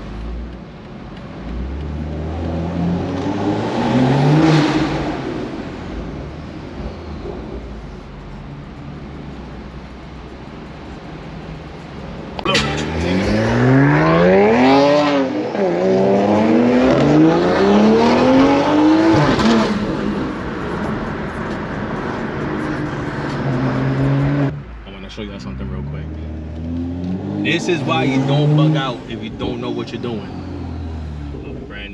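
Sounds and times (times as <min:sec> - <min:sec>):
car engine accelerating: 0:00.0 - 0:31.9.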